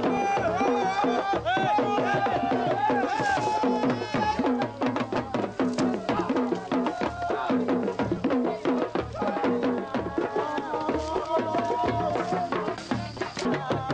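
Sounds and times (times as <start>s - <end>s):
hand drums beating: 0.0s - 13.9s.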